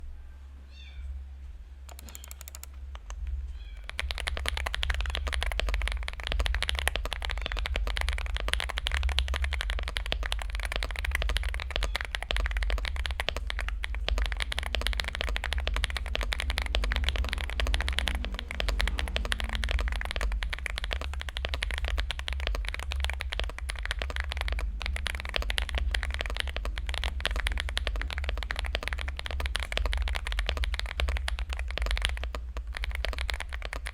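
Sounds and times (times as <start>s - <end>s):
fast typing on mechanical keyboard: 1.9s - 33.9s.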